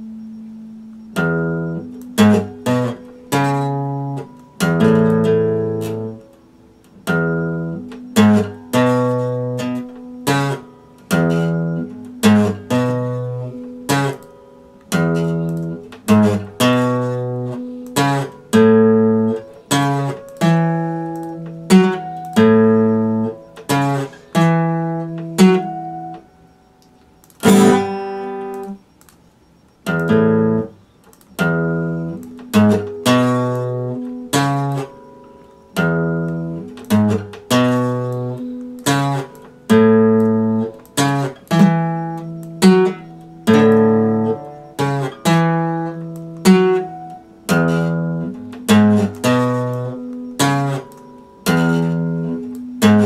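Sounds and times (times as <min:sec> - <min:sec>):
acoustic guitar chords ringing: 0:00.0 - 0:53.0.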